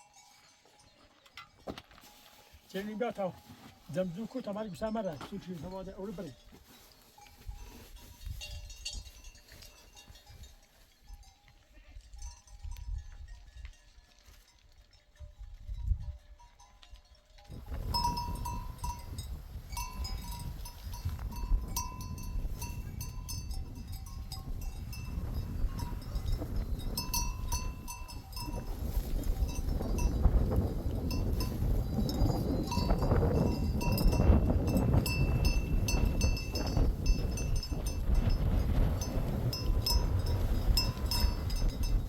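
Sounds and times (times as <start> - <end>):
small bells ringing: 0.0 - 14.1, 14.9 - 42.0.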